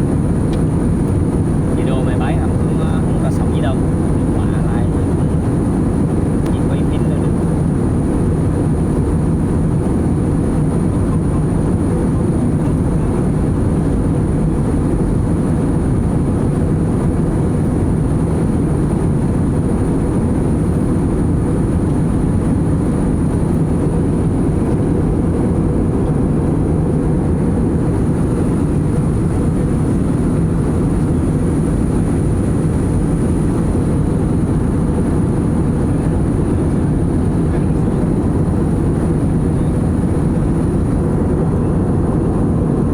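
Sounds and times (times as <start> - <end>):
jet cabin engine rumble: 0.0 - 42.9.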